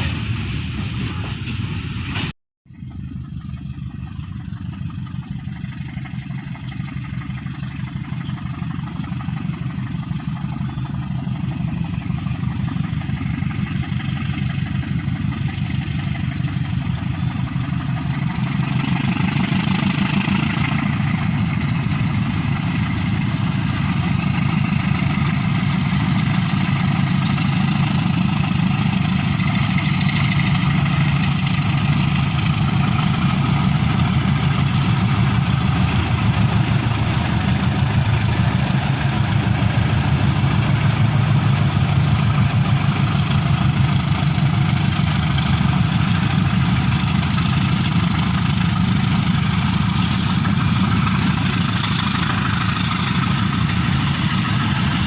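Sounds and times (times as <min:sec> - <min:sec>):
locomotive diesel engines running: 0:00.0 - 0:55.0.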